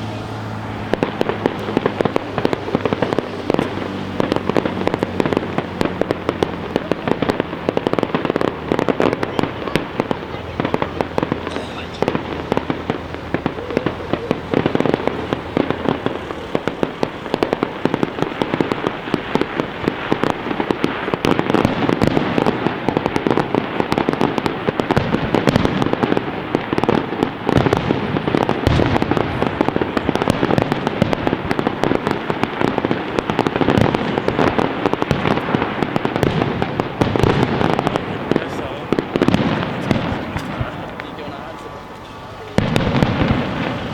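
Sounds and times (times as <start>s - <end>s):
distant fireworks bursts and crackling: 0.0s - 43.9s.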